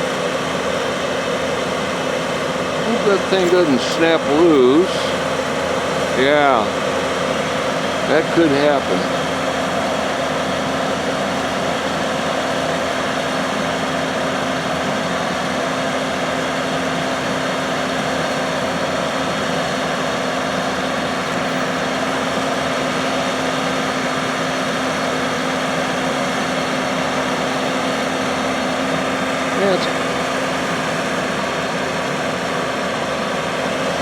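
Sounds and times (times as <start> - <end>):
machine droning steadily: 0.0 - 34.0.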